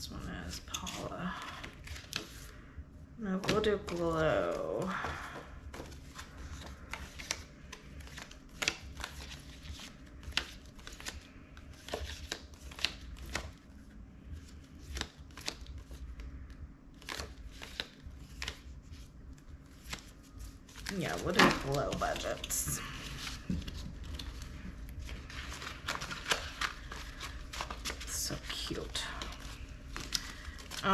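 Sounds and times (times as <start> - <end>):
paper cards rustling and tapping: 0.6 - 2.5, 3.4 - 13.6, 14.3 - 30.9.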